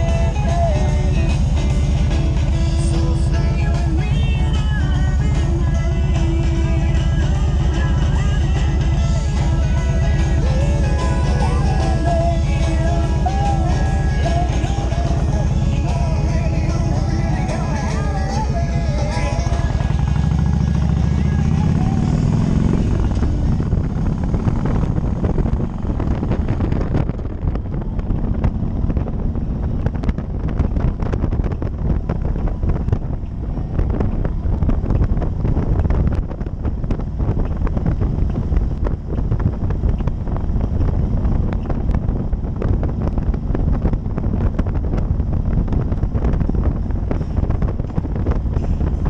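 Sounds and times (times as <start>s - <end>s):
motorcycle engine rumble: 0.0s - 49.0s
wind buffeting microphone: 0.0s - 49.0s.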